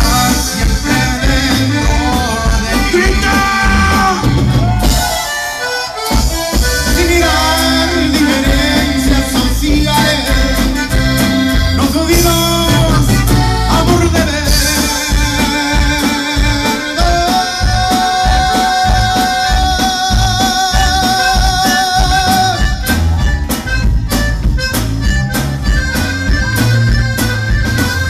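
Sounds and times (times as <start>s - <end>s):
accordion: 0.0s - 28.0s
acoustic guitar: 0.0s - 28.0s
drums with steady beat: 0.0s - 28.0s
electric bass: 0.0s - 28.0s.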